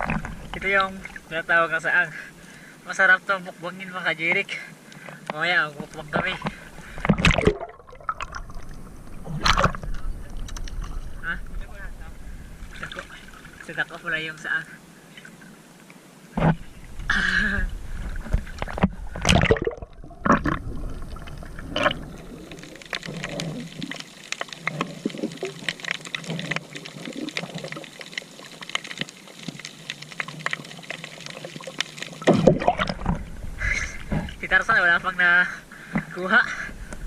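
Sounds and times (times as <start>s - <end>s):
sea water splashing and sloshing: 0.0s - 37.0s.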